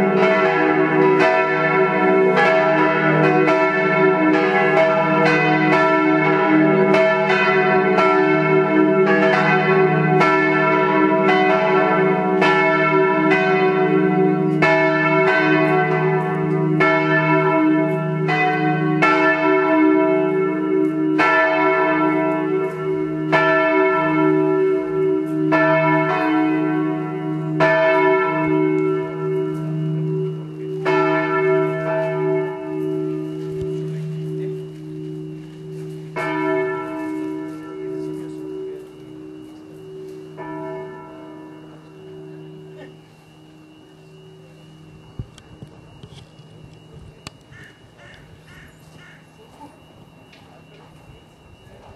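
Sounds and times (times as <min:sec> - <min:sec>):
church bells ringing: 0:00.0 - 0:51.9
low bell hum: 0:00.0 - 0:51.9.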